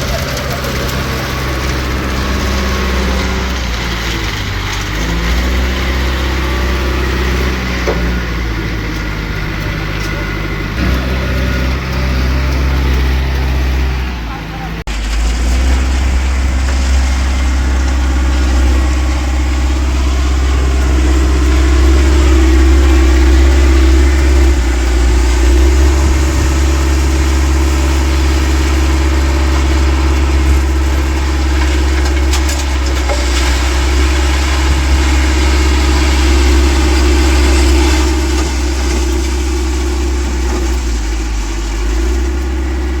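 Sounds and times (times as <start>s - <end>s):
concrete mixer diesel engine running: 0.0s - 43.0s.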